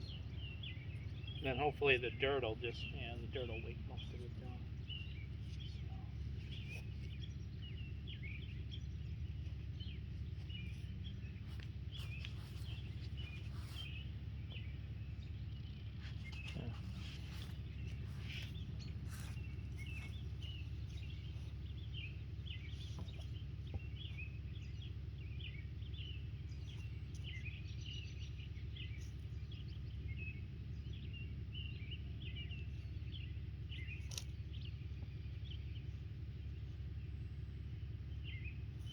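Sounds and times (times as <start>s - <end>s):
low background rumble: 0.0s - 38.9s
small birds chirping: 0.0s - 38.9s.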